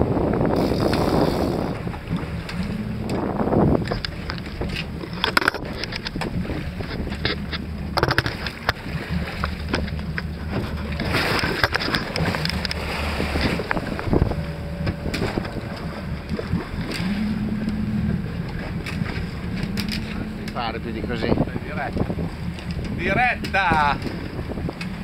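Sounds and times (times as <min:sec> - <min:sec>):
boat engine humming: 0:00.0 - 0:25.0
sea noise: 0:00.0 - 0:25.0
wind on microphone: 0:00.0 - 0:25.0.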